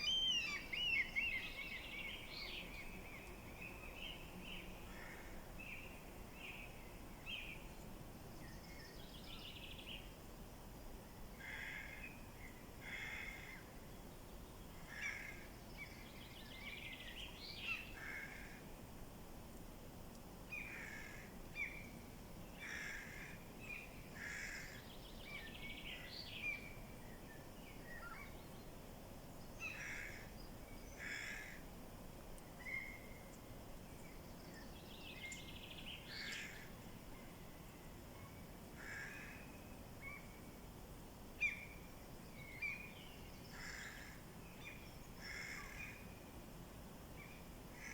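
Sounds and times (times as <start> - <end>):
low background hiss: 0.0 - 47.9.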